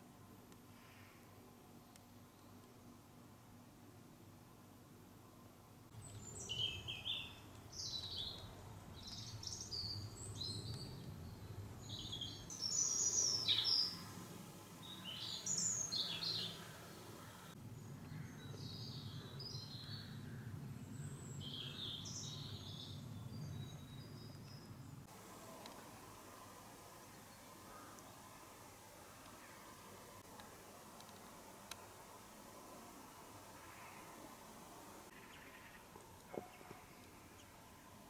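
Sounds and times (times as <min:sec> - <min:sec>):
songbirds chirping: 0:04.4 - 0:38.0.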